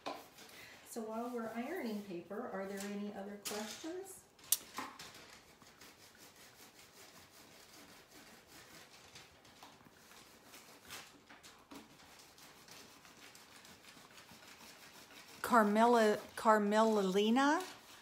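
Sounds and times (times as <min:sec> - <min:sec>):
iron rubbing on paper: 0:00.0 - 0:02.8, 0:05.1 - 0:11.2, 0:11.8 - 0:18.0.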